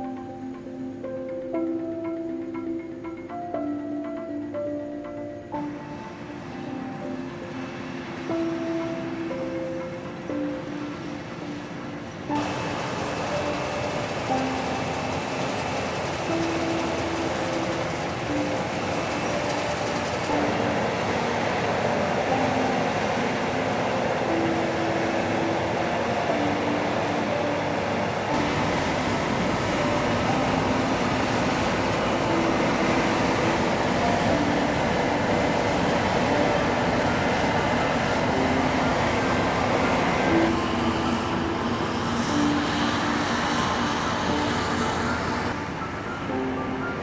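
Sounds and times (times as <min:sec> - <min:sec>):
combine harvester running: 0:00.0 - 0:47.0.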